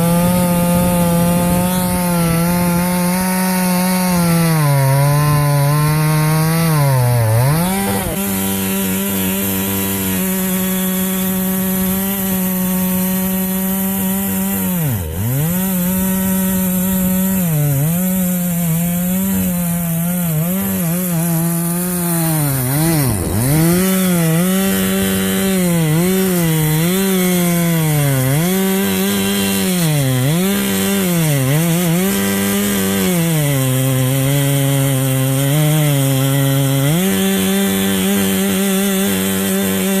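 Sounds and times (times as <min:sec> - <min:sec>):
chainsaw ripping a log: 0:00.0 - 0:40.0.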